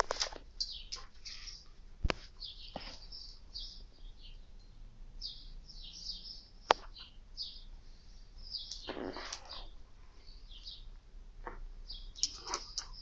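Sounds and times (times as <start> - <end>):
small birds chirping: 0.2 - 13.0.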